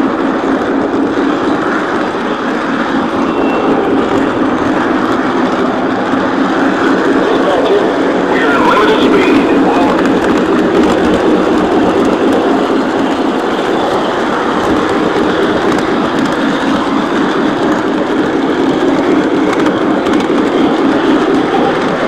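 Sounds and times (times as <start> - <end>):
low motor hum: 0.0 - 22.0
model train wheels rumbling on rail: 0.0 - 22.0.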